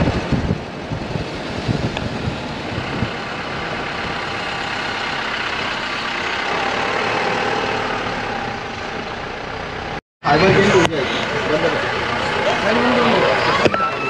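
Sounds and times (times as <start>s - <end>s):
minibus engine running: 0.0s - 14.0s.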